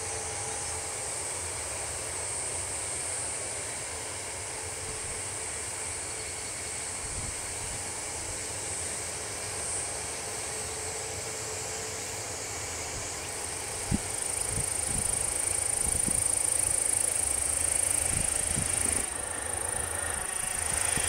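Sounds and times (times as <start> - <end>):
jet engines rushing hiss: 0.0 - 21.0.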